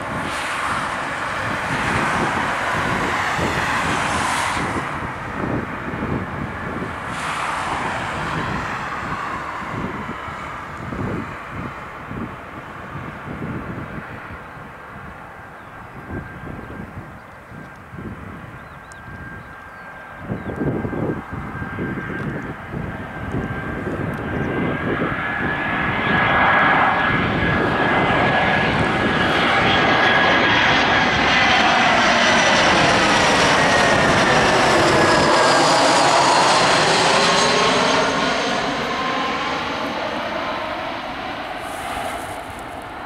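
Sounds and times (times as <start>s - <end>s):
jet engines passing overhead: 0.0s - 43.0s.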